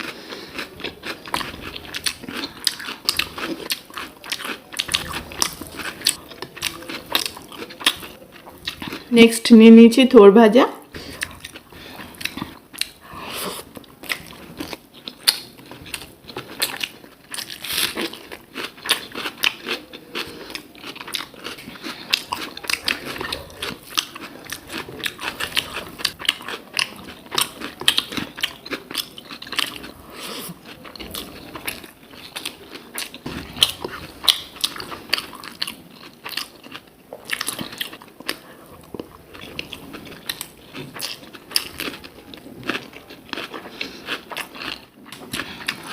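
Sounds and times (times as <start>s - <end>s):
crunching and chewing: 0.0s - 9.1s, 10.9s - 45.9s.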